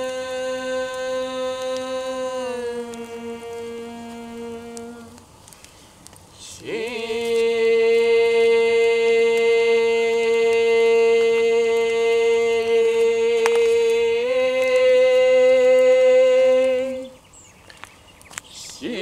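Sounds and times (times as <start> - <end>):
person chanting a held vowel: 0.0 - 5.3, 6.4 - 17.2, 18.6 - 19.0.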